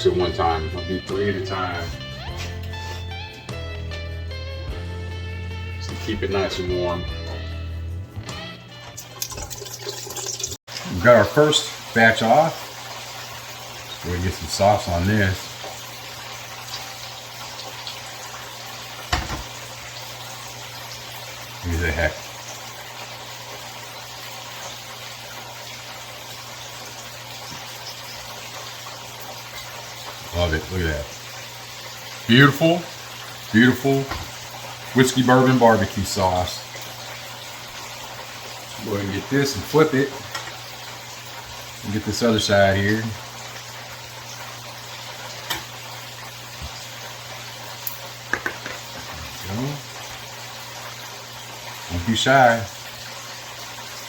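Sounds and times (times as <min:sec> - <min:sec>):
meat sizzling: 0:08.8 - 0:54.0.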